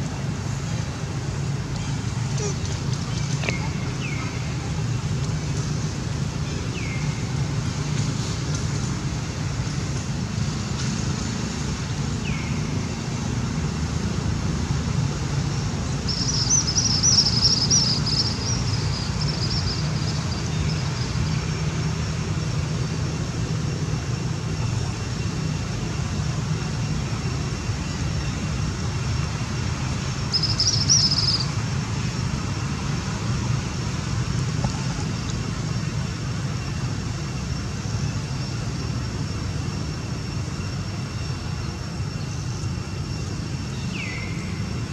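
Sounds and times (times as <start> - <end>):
low outdoor rumble: 0.0 - 44.9.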